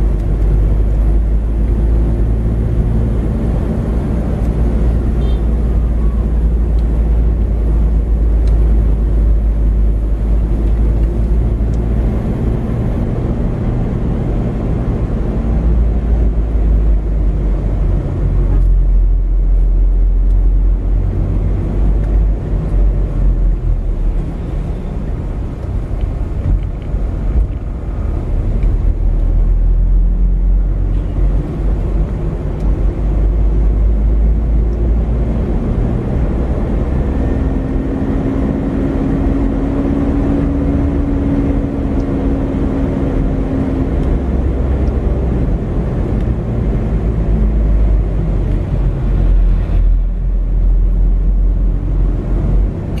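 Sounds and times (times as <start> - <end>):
car engine and tyres rumbling: 0.0 - 53.0.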